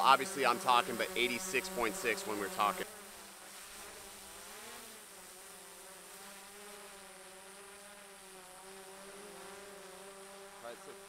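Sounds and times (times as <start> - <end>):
drone propeller buzz: 0.0 - 11.0.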